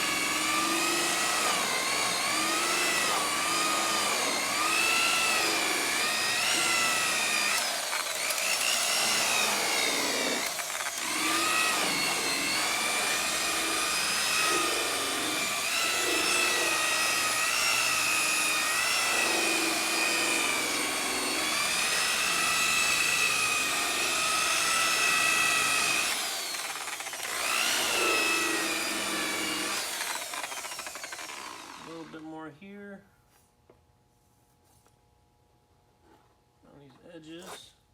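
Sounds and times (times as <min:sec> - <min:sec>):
rotary power tool motor whine: 0:00.0 - 0:32.2.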